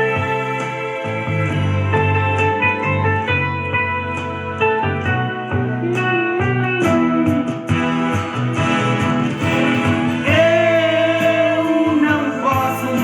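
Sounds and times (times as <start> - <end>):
pop song through stereo: 0.0 - 13.0.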